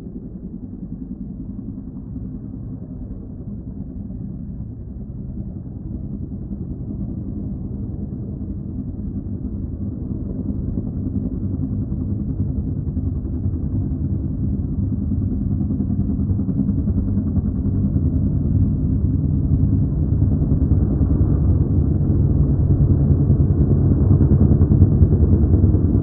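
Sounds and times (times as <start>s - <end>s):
helicopters flying overhead: 0.0s - 26.0s.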